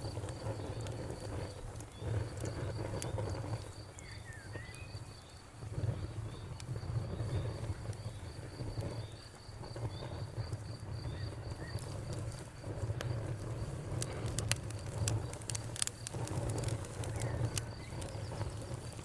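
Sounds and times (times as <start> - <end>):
cricket chirping: 0.0 - 19.0
wood fire crackling: 0.0 - 19.0.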